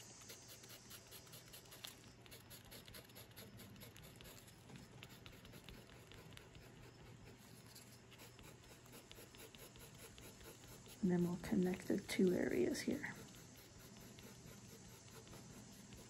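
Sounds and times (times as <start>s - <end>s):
skewer scratching oil pastel on paper: 0.0s - 16.0s.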